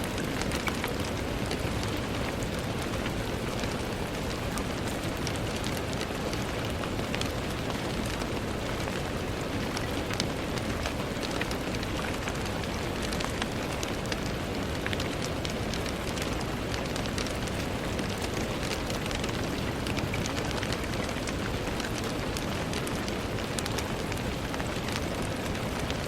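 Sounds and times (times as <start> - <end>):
rain on a window: 0.0 - 26.0.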